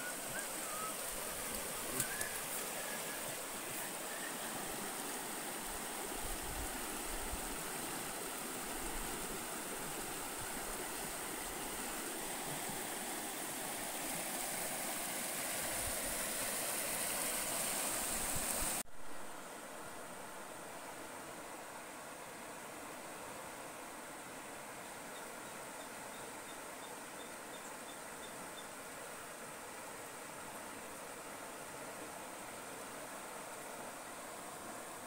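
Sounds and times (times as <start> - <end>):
river water rushing: 0.0 - 25.8, 28.0 - 35.0.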